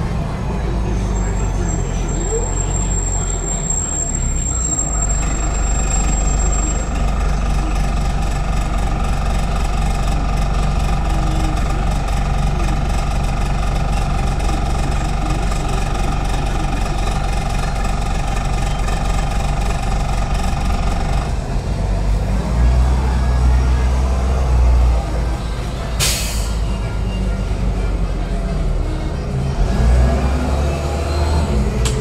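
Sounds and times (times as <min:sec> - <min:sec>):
bus engine drone: 0:00.0 - 0:32.0.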